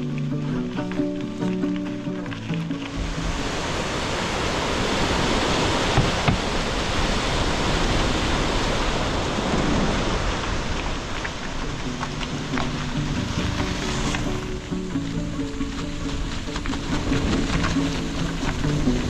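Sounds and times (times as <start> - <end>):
heavy low rumble: 0.0 - 8.0, 9.2 - 19.0
wind buffeting microphone: 0.6 - 19.0.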